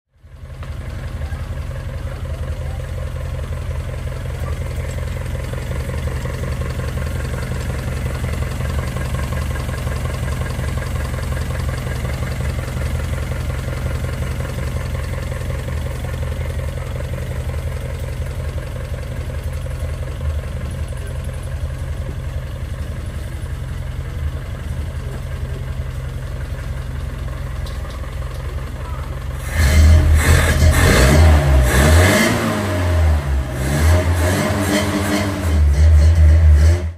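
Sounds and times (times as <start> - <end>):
car engine idling: 0.1 - 36.7.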